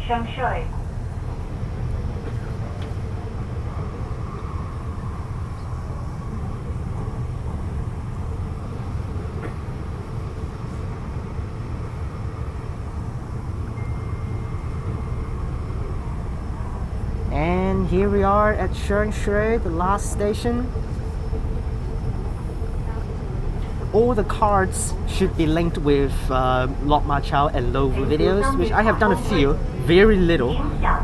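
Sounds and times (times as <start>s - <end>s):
train wheels and motors rumbling: 0.0s - 31.0s.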